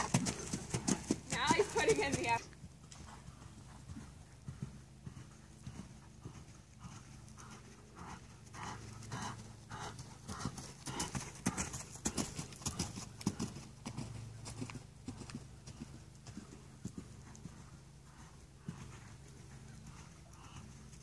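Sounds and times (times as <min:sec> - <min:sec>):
horse hoofbeats on sand: 0:00.0 - 0:21.0.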